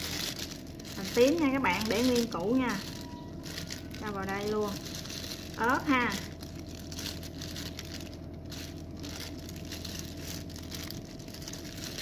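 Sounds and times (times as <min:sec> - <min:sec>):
faint rustling and handling: 0:00.0 - 0:12.0
steady low hum: 0:00.0 - 0:12.0.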